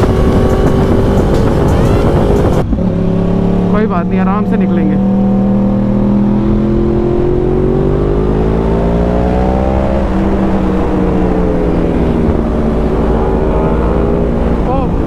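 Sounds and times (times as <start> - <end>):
motorcycle engine accelerating: 0.0 - 15.0
wind rush: 0.0 - 15.0.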